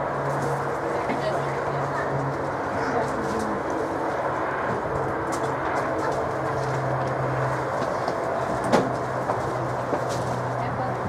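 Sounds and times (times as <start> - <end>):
steam locomotive moving: 0.0 - 11.0.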